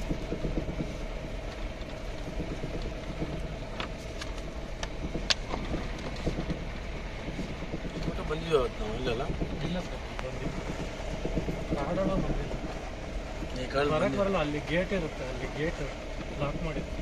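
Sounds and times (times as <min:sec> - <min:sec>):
sharp clicks and rattles: 0:00.0 - 0:17.0
vehicle engine running: 0:00.0 - 0:17.0.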